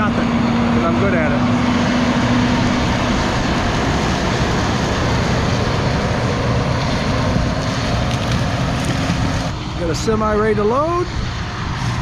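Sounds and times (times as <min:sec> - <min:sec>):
low engine hum: 0:00.0 - 0:12.0
tractor engine running: 0:00.0 - 0:12.0.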